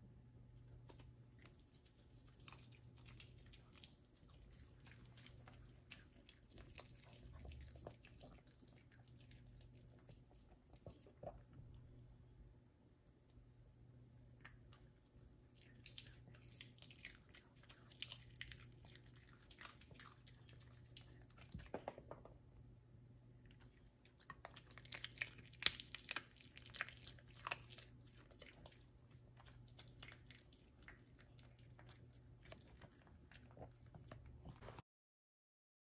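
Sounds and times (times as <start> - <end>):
dog crunching food: 0.8 - 11.3, 14.4 - 21.8, 23.5 - 34.8.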